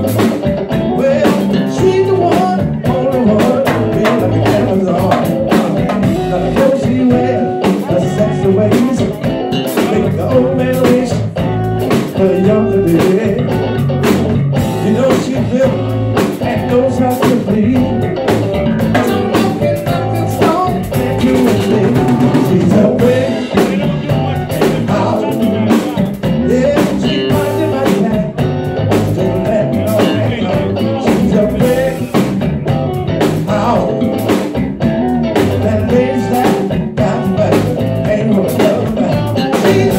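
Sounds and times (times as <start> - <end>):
bass guitar: 0.0 - 39.9
drum kit beat: 0.0 - 39.9
electric guitar: 0.0 - 39.9
man singing: 0.0 - 39.9.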